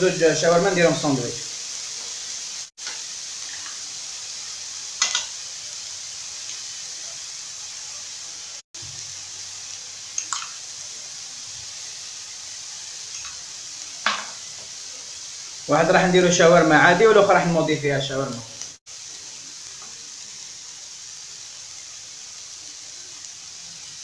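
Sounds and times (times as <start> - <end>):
meat sizzling in oil: 0.0 - 24.0.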